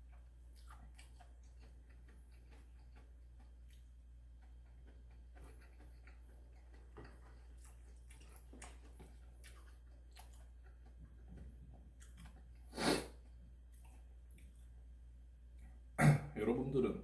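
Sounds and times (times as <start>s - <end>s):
wet chewing: 0.0s - 14.9s.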